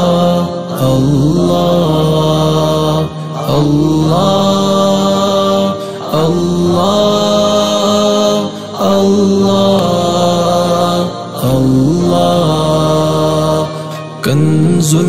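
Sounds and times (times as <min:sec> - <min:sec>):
person singing devotional song: 0:00.0 - 0:15.0.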